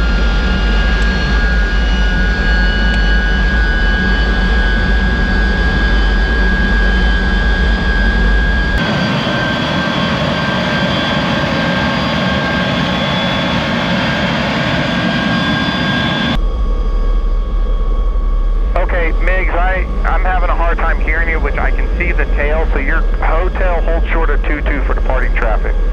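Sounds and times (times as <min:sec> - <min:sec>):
jet engine rumble and whine: 0:00.0 - 0:25.9.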